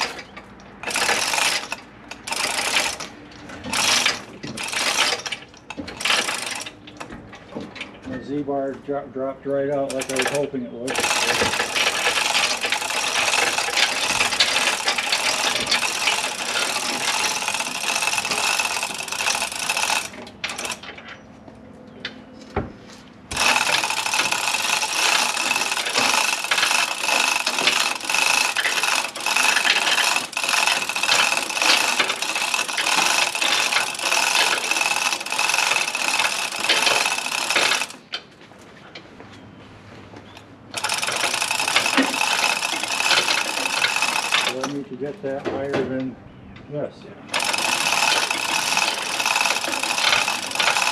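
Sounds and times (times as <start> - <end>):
rattling motor-driven mechanism: 0.0 - 8.5, 9.6 - 38.3, 40.3 - 46.0, 47.2 - 50.9.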